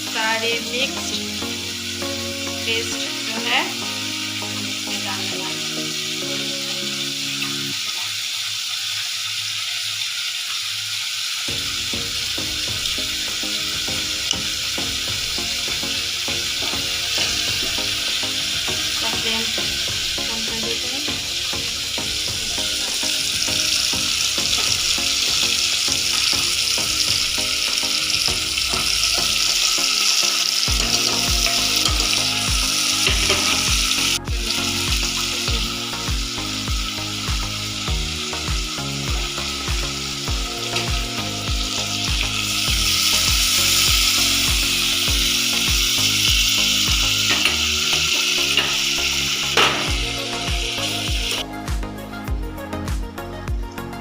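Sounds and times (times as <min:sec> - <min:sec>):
chicken sizzling in hot oil: 0:00.0 - 0:51.5.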